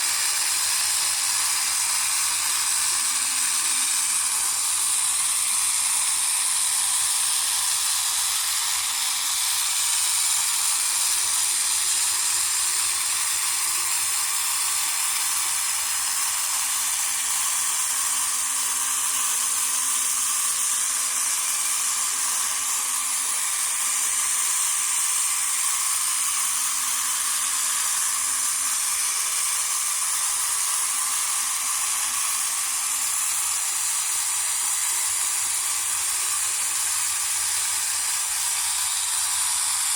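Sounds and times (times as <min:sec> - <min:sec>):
small electric motor whirring: 0:00.0 - 0:39.9.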